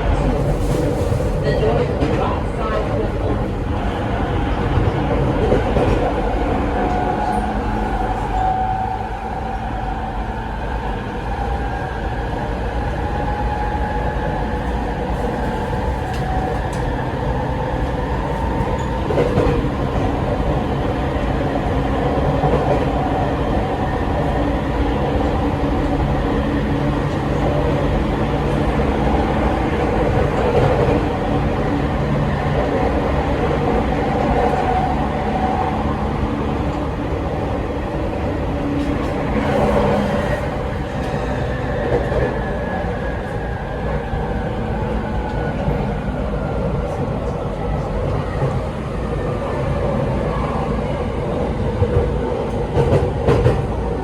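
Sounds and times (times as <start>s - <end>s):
wheel and rail rumble: 0.0s - 54.0s.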